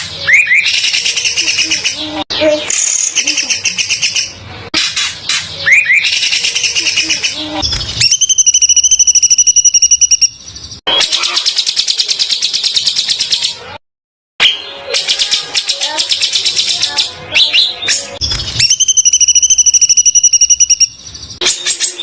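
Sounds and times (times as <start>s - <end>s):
bird trilling: 0.0s - 13.6s, 14.4s - 22.0s.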